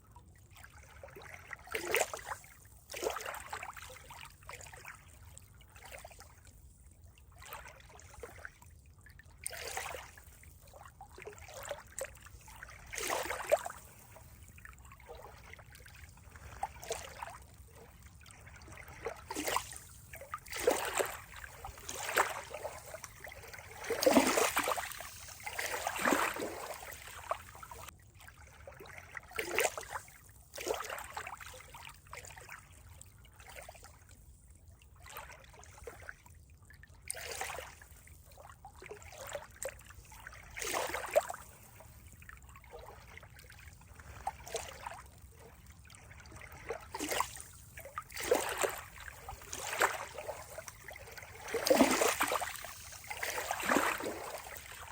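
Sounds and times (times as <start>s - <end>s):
water trickling and splashing: 0.3s - 54.9s.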